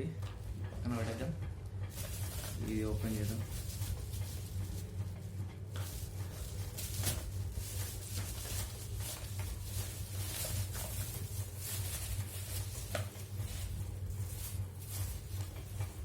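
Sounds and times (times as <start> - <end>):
steady low hum: 0.0 - 16.0
packaging rustling and crinkling: 1.9 - 16.0.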